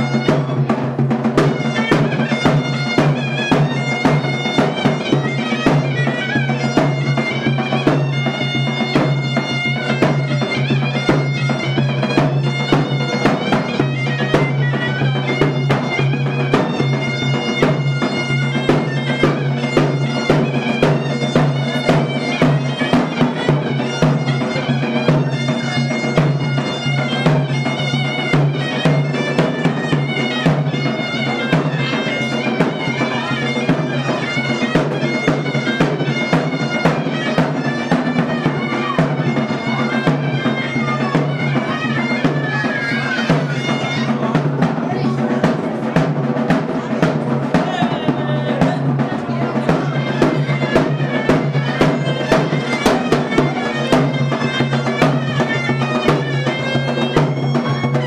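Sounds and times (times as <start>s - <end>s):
piping wind instrument melody: 0.0s - 58.0s
regular drum beat: 0.0s - 58.0s.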